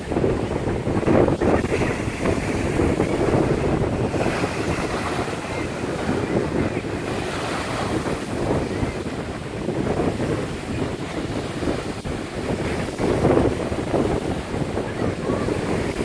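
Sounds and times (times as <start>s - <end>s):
waves washing onto beach: 0.0s - 16.0s
wind buffeting microphone: 0.0s - 16.0s.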